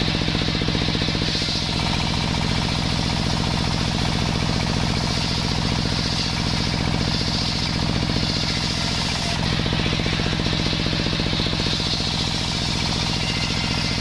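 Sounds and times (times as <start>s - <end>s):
circular saw cutting wood: 0.0s - 14.0s
engine droning: 0.0s - 14.0s.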